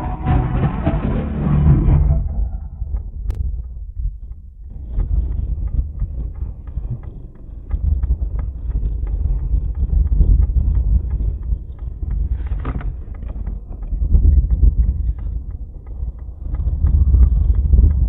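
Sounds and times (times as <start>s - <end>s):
wind buffeting microphone: 2.2s - 18.0s.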